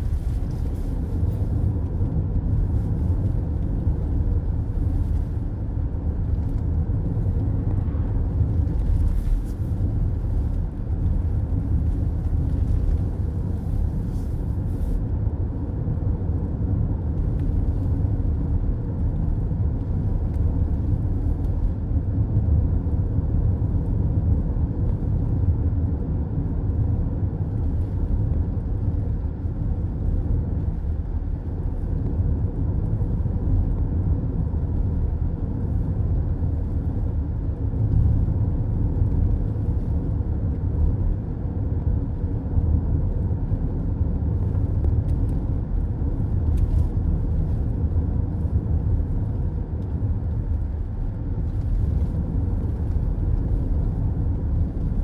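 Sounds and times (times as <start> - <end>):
car road noise from inside: 0.0 - 55.0.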